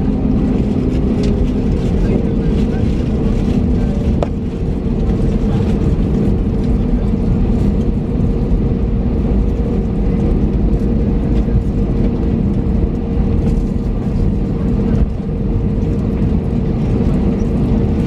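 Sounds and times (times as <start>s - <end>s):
aircraft cabin rumble: 0.0s - 18.0s.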